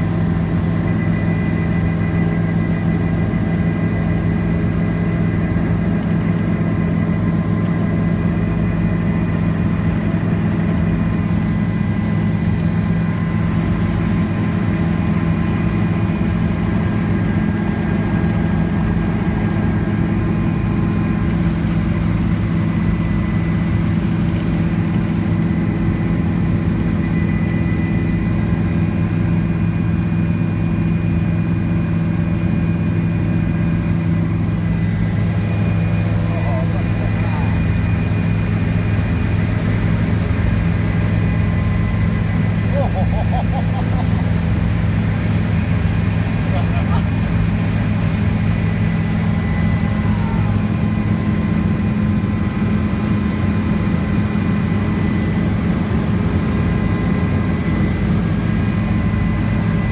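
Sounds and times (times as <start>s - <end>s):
helicopter cabin drone: 0.0s - 59.9s.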